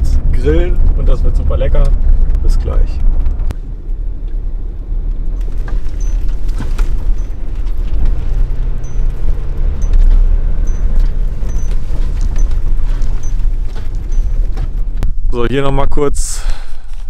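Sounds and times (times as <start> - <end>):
van engine rumble: 0.0 - 17.0.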